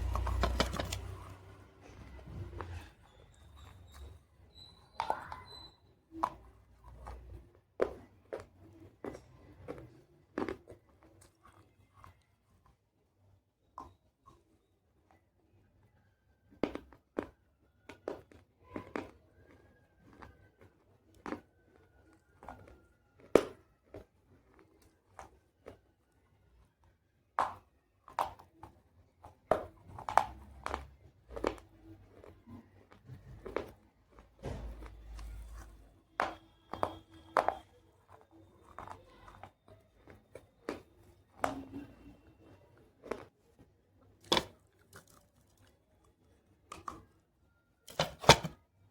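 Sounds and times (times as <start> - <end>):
chewing: 0.0 - 12.9, 17.2 - 26.9, 28.0 - 47.2.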